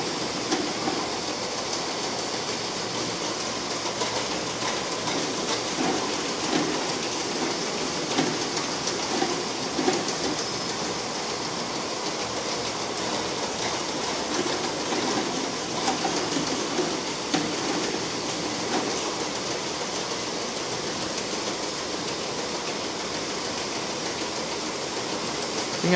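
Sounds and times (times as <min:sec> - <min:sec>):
conveyor mechanical rattle: 0:00.0 - 0:25.9.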